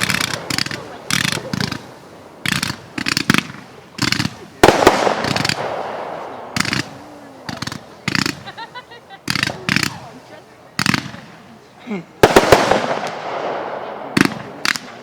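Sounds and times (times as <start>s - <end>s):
fireworks bangs and crackling: 0.0s - 11.6s, 12.2s - 15.0s.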